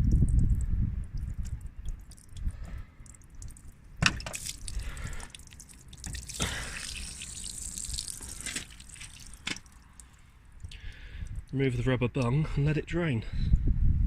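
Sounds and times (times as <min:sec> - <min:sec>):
water running and dripping: 0:00.0 - 0:12.3.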